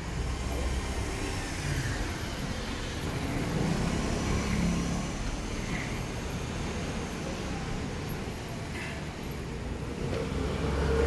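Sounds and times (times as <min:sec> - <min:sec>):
vehicle engine hum: 0:00.0 - 0:11.0.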